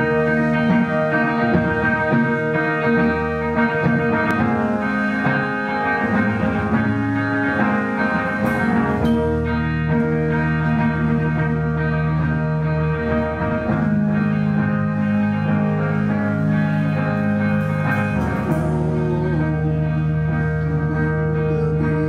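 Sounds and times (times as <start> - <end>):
bass guitar: 0.0 - 22.0
electric guitars playing chords: 0.0 - 22.0.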